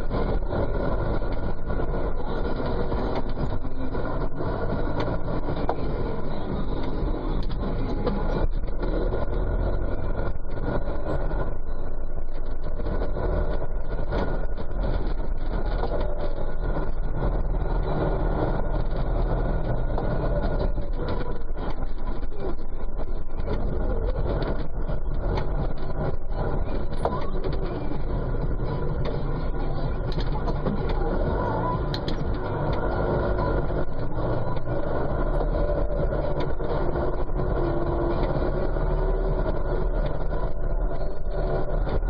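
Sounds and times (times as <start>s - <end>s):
tractor engine running under load: 0.0s - 42.0s.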